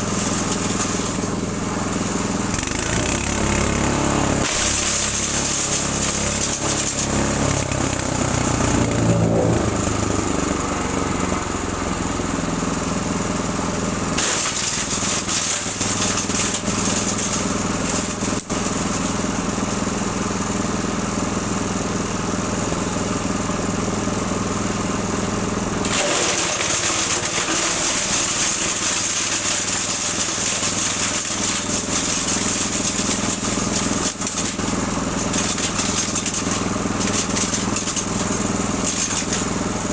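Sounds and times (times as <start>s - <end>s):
wood chipper engine running: 0.0s - 39.9s.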